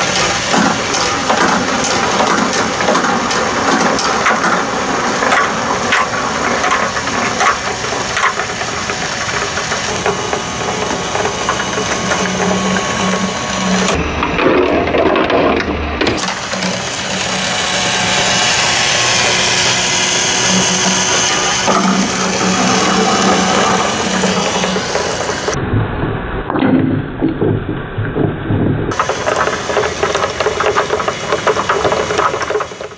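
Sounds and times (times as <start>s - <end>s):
plastic balls rattling on tracks: 0.0s - 25.6s, 28.9s - 32.9s.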